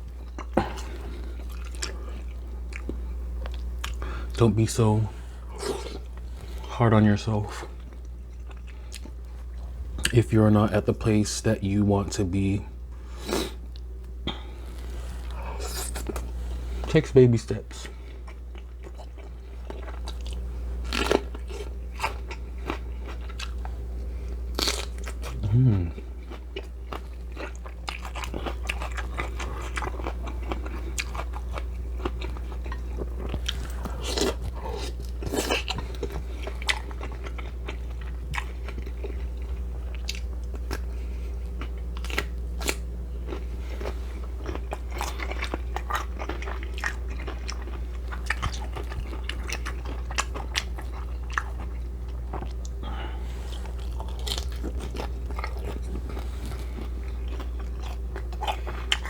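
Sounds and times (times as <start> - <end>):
chewing and crunching food: 0.0 - 59.0
steady low hum: 0.0 - 59.0.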